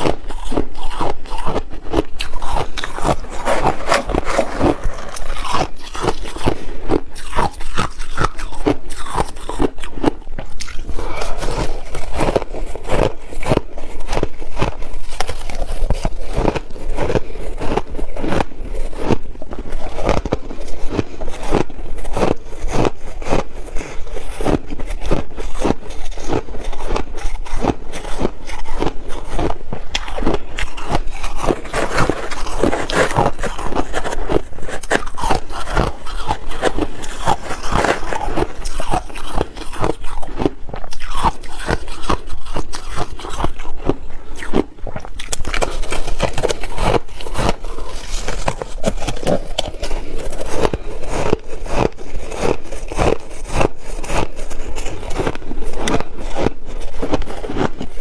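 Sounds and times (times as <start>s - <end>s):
person chewing ice: 0.0s - 58.0s.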